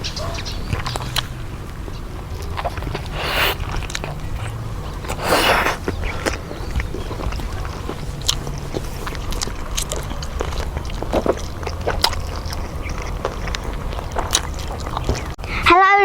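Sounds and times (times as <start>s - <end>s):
crunchy chewing: 2.1s - 15.4s.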